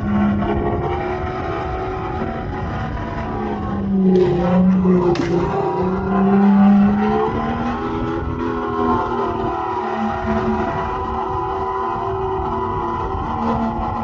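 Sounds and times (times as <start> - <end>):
synthetic engine drone: 0.0 - 14.0.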